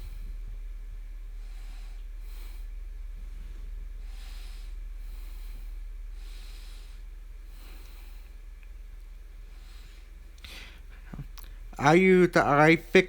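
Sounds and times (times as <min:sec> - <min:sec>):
steady low hum: 0:00.0 - 0:13.0
person breathing softly: 0:01.2 - 0:11.8.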